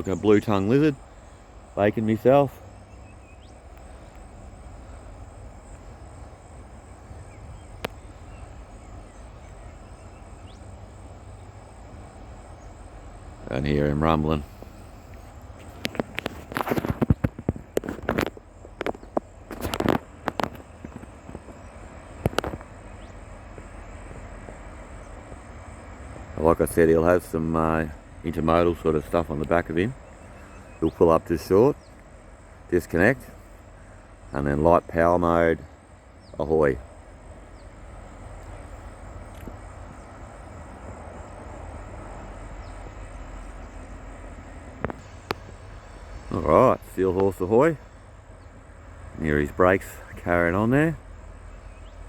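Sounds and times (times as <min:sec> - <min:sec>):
locomotive rumbling: 0:00.0 - 0:52.0.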